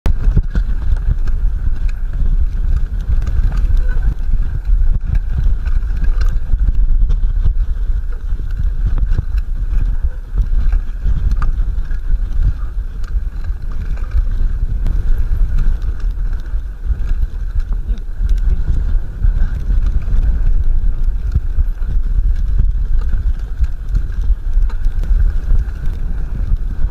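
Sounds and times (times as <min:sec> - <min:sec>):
wind buffeting microphone: 0:00.0 - 0:26.9
bike knocks and clicks: 0:00.1 - 0:26.9
tyres rolling over snow: 0:00.1 - 0:26.9.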